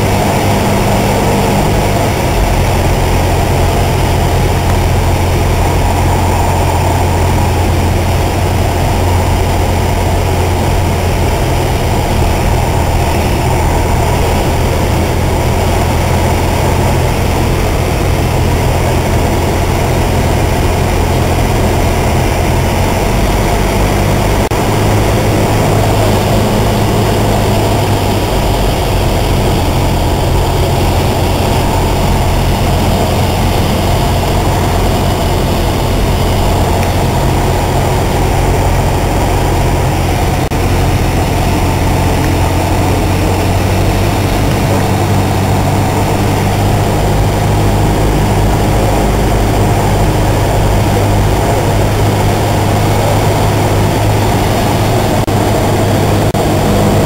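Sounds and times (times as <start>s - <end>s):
propeller airplane engine drone: 0.0s - 57.0s.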